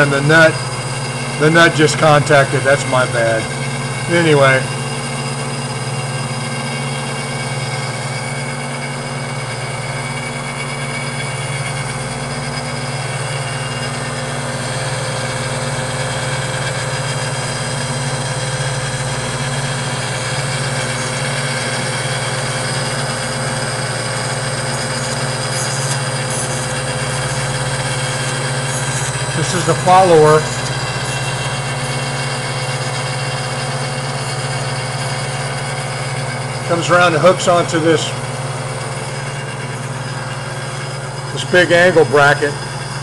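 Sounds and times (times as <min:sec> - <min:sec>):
grinder motor hum: 0:00.0 - 0:43.0.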